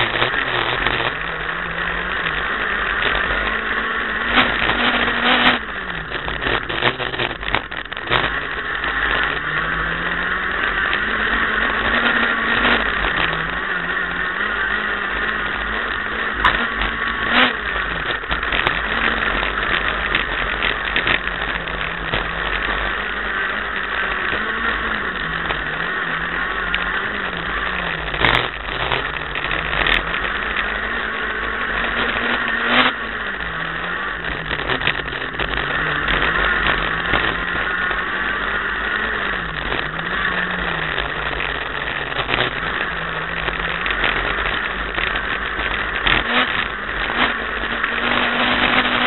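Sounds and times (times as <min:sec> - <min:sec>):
car engine revving in cabin: 0:00.0 - 0:49.0.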